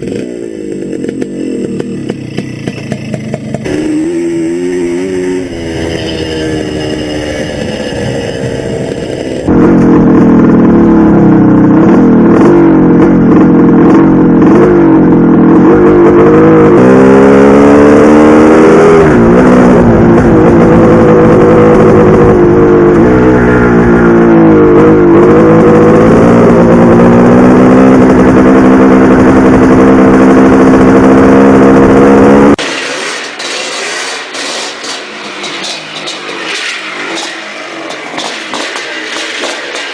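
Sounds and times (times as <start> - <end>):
dirt bike engine running hard: 0.0 - 33.1, 34.1 - 39.9.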